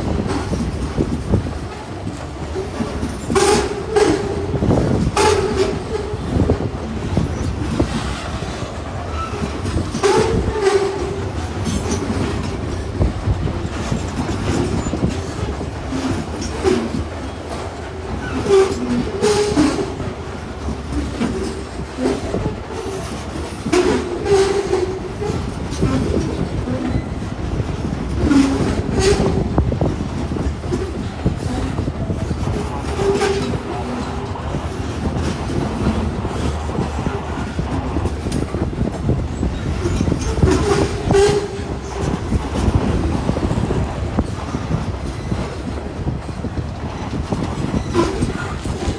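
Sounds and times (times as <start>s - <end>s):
freight train rumbling: 0.0s - 48.9s
wheels clacking on rail joints: 0.0s - 48.9s
train wheels squeaking: 0.4s - 48.9s.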